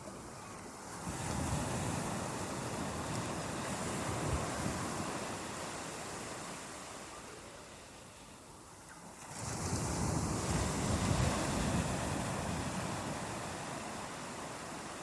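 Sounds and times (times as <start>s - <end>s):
ocean waves breaking on beach: 0.0s - 8.3s, 9.0s - 15.0s.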